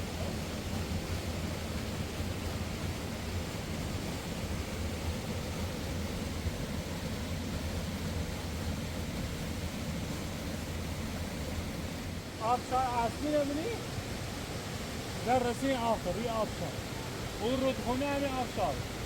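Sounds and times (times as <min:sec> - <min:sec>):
river and waterfall rushing: 0:00.0 - 0:19.0.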